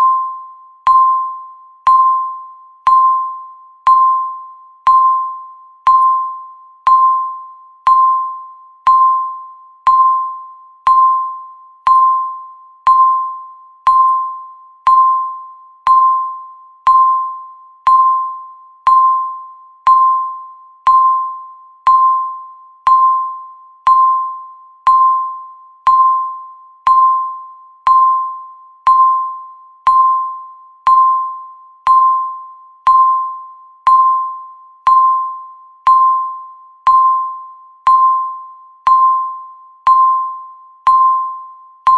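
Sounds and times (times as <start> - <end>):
timer beeping: 0.0 - 41.9.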